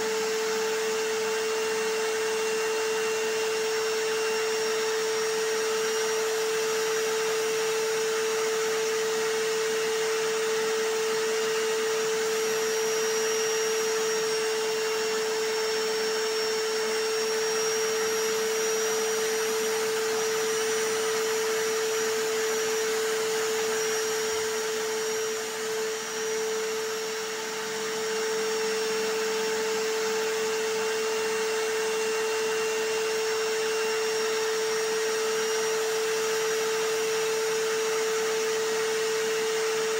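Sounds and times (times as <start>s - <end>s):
hammer drill: 0.0s - 39.9s
vacuum cleaner running: 0.0s - 39.9s.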